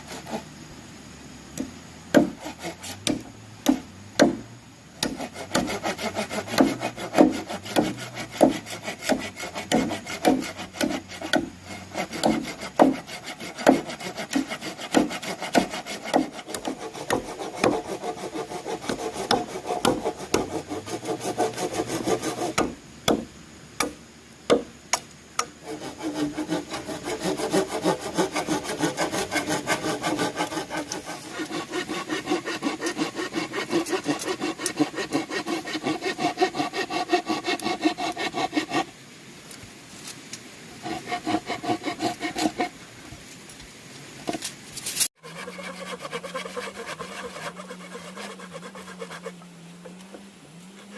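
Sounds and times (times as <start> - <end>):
handsaw cutting bamboo: 0.0 - 0.5, 1.6 - 4.4, 5.0 - 23.2, 25.4 - 38.9, 40.8 - 42.7, 44.9 - 50.9.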